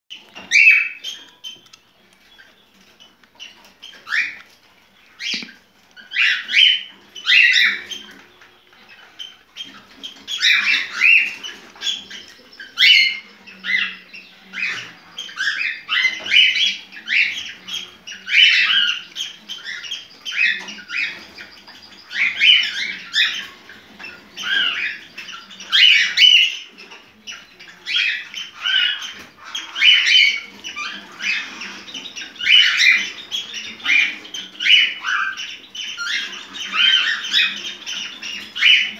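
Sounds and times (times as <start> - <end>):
cockatiel chirping and warbling: 0.2 - 38.9.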